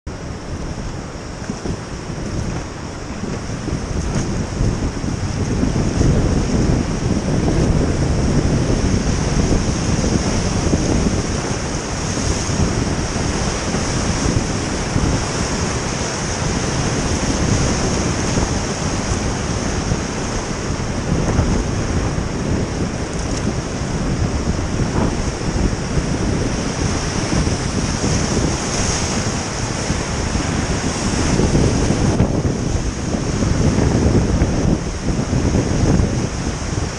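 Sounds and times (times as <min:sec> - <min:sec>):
whitewater rapid roaring: 0:00.1 - 0:36.9
wind buffeting microphone: 0:00.1 - 0:36.9.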